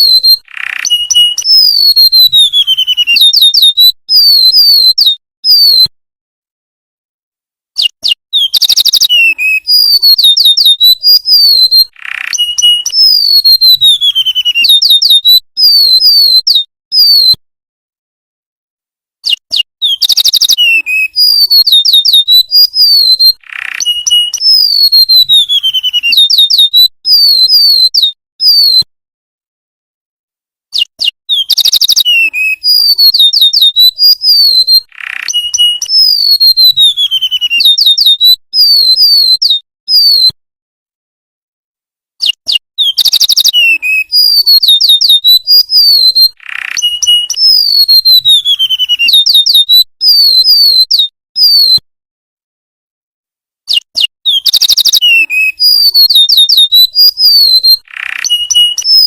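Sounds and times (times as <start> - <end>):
bird trilling and whistling: 0.0 - 5.9, 7.8 - 17.4, 19.2 - 28.9, 30.7 - 40.4, 42.2 - 51.8, 53.7 - 59.0.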